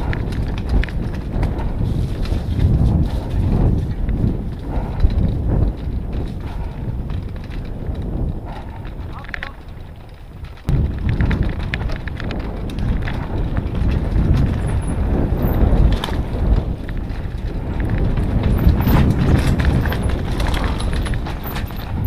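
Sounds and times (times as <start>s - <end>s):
bike rattling over stones: 0.0s - 22.0s
wind and tyres rumbling: 0.0s - 22.0s.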